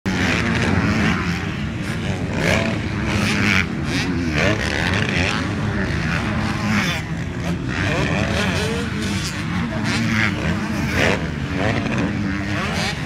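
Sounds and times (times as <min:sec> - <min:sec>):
motorcycle engines revving: 0:00.1 - 0:13.0.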